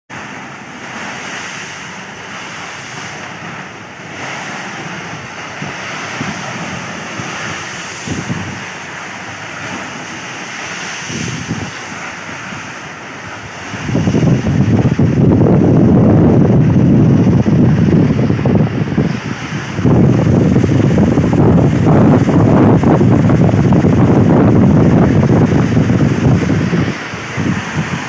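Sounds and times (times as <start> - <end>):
waves washing: 0.1 - 28.0
wind buffeting microphone: 0.9 - 28.0
strong wind blowing: 1.0 - 28.0.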